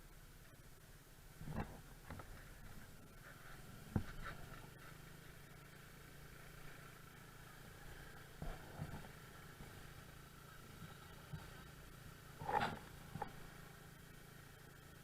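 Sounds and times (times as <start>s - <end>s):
scooter engine running: 1.2s - 15.0s.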